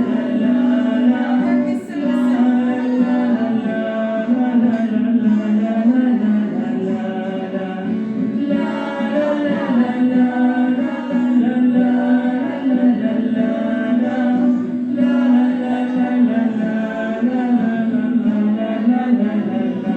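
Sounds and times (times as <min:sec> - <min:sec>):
children singing together: 0:00.0 - 0:19.9.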